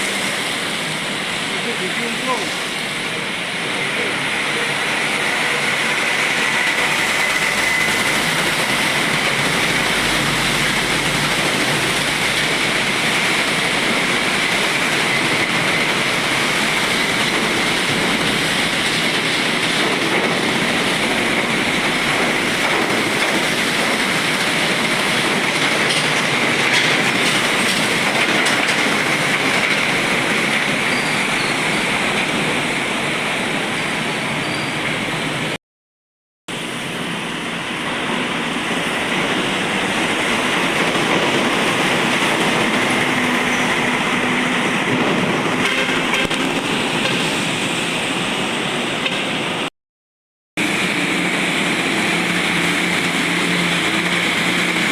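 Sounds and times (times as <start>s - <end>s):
heavy trucks on wet road: 0.0s - 35.6s, 36.5s - 49.7s, 50.6s - 54.9s.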